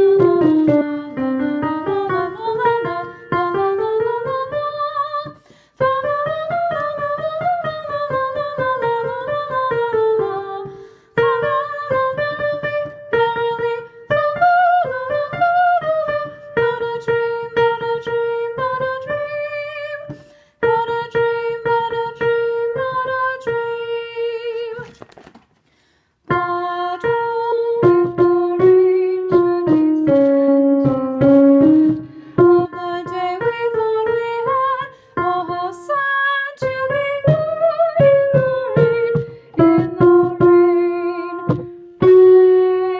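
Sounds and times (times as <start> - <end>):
piano accompaniment: 0.0 - 24.9, 26.3 - 42.9
soprano singing: 0.0 - 25.0, 26.3 - 42.9.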